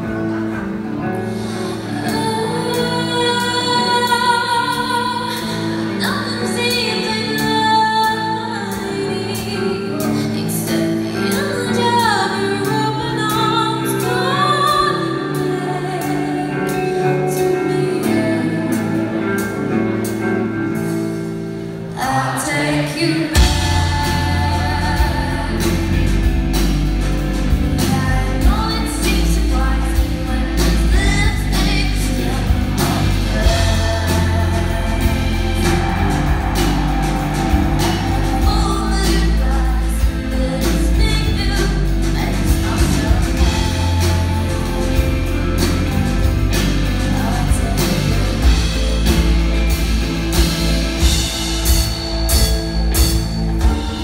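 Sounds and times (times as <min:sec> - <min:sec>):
rock band playing live: 0:00.0 - 0:54.0
woman singing: 0:01.2 - 0:20.8, 0:21.9 - 0:54.0.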